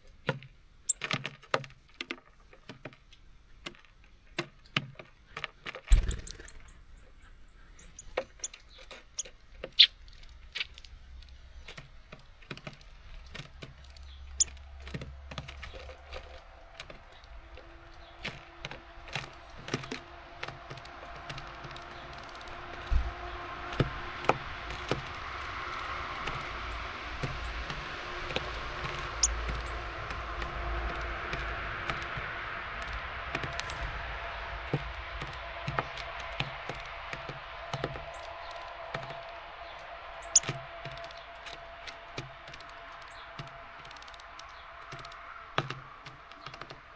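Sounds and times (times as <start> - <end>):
beaks pecking at seeds: 0.2 - 46.9.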